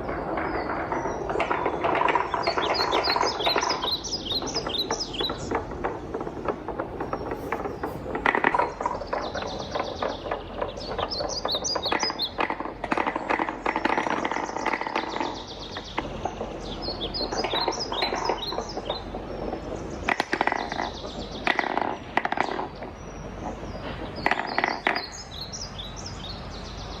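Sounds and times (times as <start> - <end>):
wooden knocks on track: 0.0 - 25.3
wooden balls rolling down marble run: 0.0 - 25.8.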